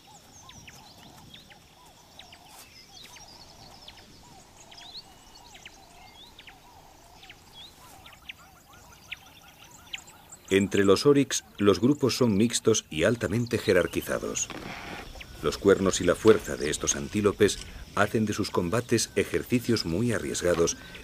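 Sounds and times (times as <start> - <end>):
lower repeated bird calls: 0.0 - 21.0.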